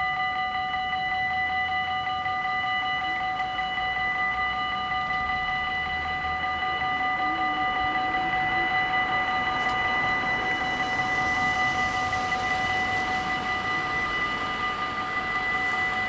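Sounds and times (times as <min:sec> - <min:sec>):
level crossing warning bells: 0:00.0 - 0:16.0.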